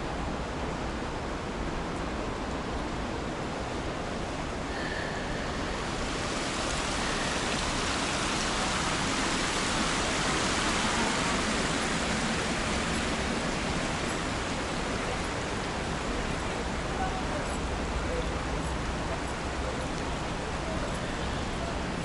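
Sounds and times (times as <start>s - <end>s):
shallow stream rushing: 0.0s - 22.0s.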